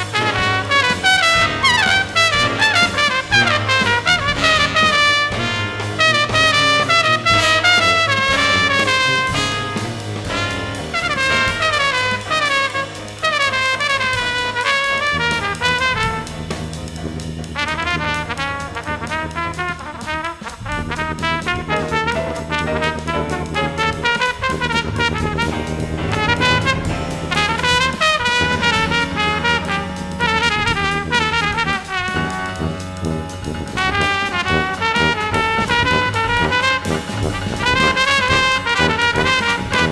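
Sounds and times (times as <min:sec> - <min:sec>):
trumpet lines: 0:00.0 - 0:16.7, 0:17.6 - 0:39.9
low held bass notes: 0:00.0 - 0:20.0, 0:20.7 - 0:39.9.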